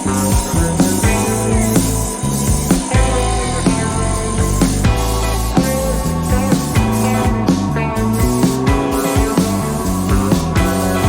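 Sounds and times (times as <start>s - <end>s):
rock music with guitar and drums: 0.0s - 11.0s.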